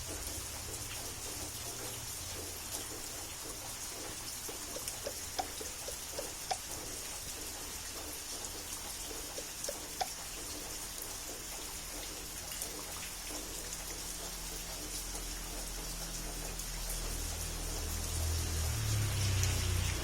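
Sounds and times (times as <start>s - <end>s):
loud rain drips: 0.0s - 20.0s
steady rain hiss: 0.0s - 20.0s.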